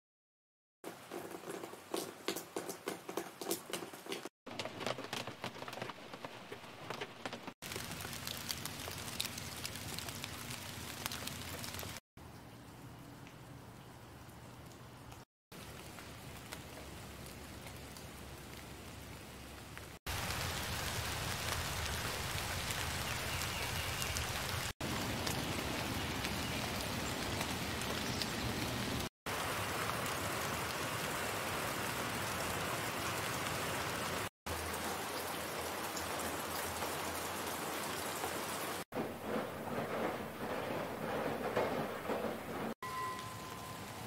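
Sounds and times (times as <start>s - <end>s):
rain falling: 0.8s - 44.0s.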